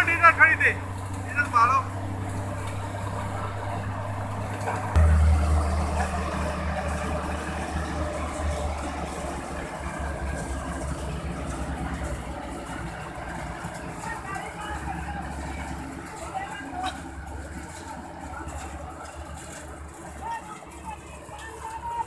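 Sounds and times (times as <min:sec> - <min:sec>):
combine harvester engine hum: 0:00.0 - 0:22.0.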